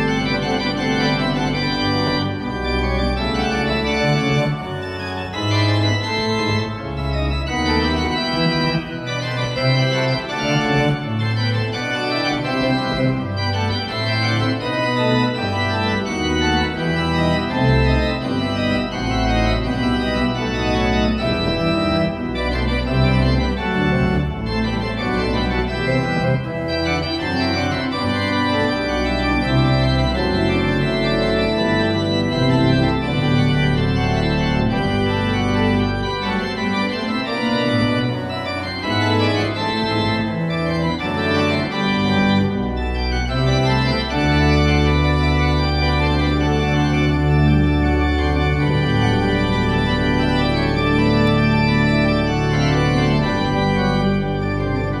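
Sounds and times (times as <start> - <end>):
pipe organ playing: 0.0 - 55.0.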